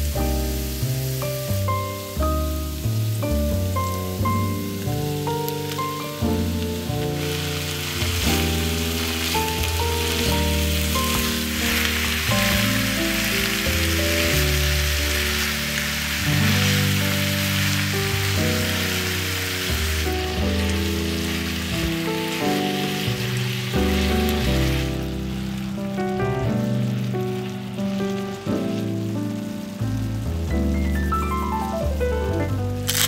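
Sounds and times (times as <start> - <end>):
background music: 0.0 - 33.0
meat and vegetables sizzling: 0.0 - 33.0.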